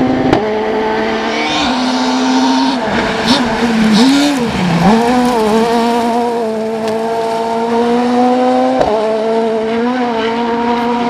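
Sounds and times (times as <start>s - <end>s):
rally car engine: 0.0s - 11.0s.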